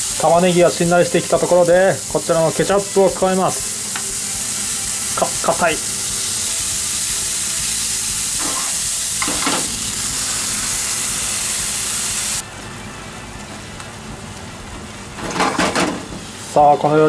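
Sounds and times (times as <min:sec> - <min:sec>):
food sizzling in frying pan: 0:00.0 - 0:16.6.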